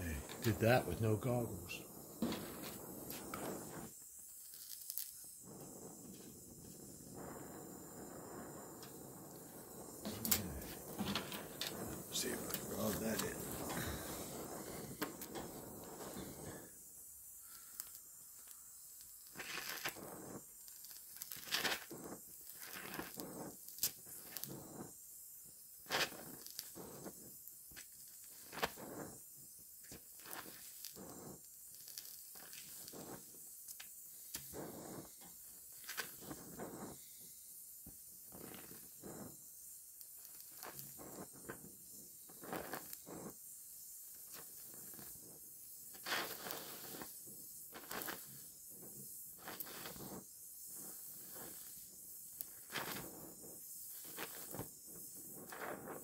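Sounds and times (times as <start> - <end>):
welding torch hissing: 0.0 - 56.0.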